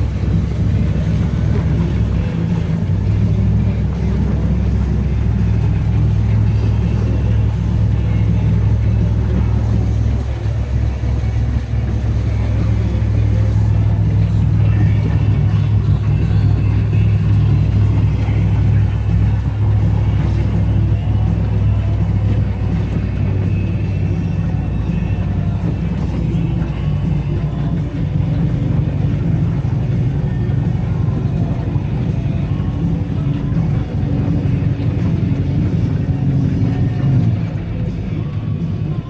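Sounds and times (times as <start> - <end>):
vehicle engine driving through water: 0.0 - 39.0.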